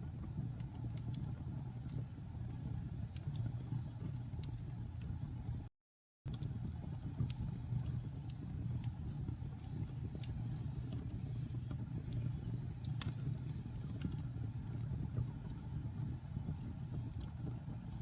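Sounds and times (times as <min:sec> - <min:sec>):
fire crackling and popping: 0:00.0 - 0:05.7, 0:06.3 - 0:18.0
fire rumbling: 0:00.0 - 0:05.7, 0:06.3 - 0:18.0.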